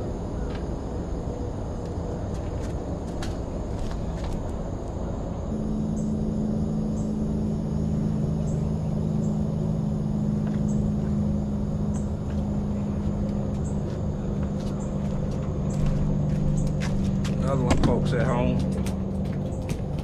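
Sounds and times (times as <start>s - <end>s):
low rumbling noise: 0.0s - 20.0s
two-tone mechanical hum: 0.0s - 20.0s.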